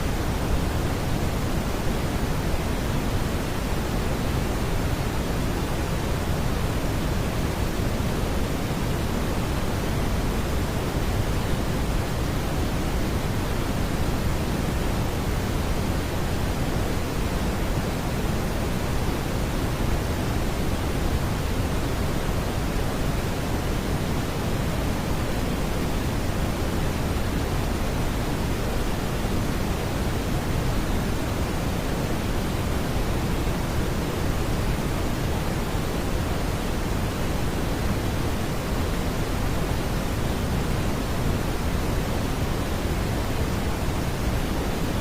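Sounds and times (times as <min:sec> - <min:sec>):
brown noise hiss: 0:00.0 - 0:45.0.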